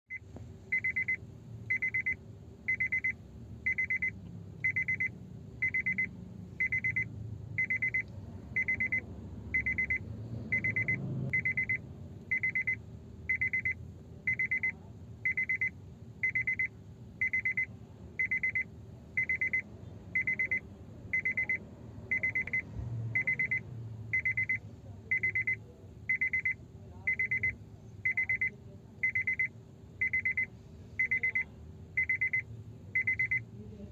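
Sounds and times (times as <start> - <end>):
car key warning chime beeps: 0.1 - 9.0, 9.6 - 33.5.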